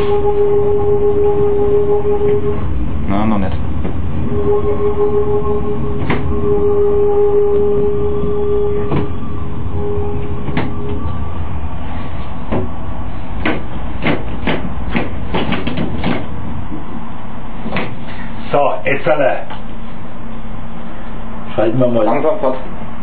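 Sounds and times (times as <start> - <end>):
electric drive whine: 0.0 - 21.5
train rolling rumble: 0.0 - 23.0.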